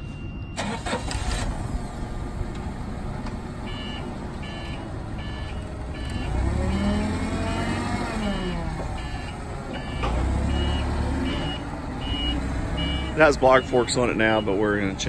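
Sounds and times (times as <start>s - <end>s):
reverse alarm beeping: 0.0s - 1.4s, 3.6s - 14.6s
forklift engine running: 0.0s - 15.0s.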